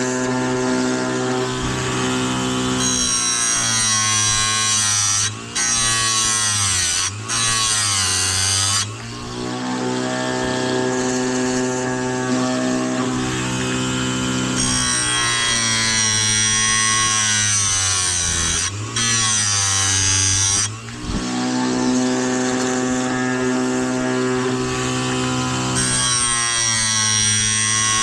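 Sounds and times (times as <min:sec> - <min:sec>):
grinding wheel on chain: 0:00.0 - 0:28.0
sharpener motor hum: 0:00.0 - 0:28.0.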